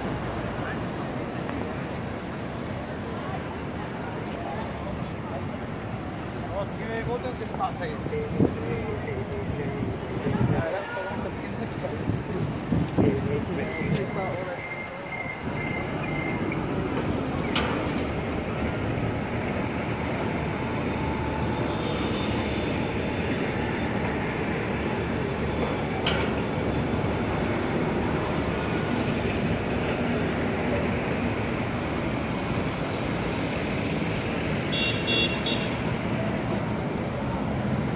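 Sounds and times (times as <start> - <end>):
city street traffic: 0.0 - 37.9.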